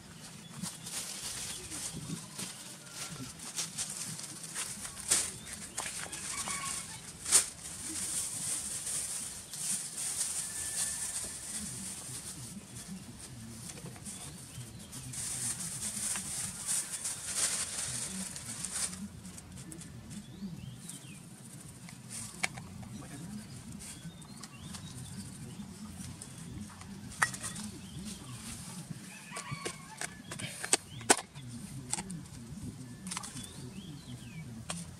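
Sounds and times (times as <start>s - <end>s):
plastic bag rustling and crinkling: 0.0s - 34.9s.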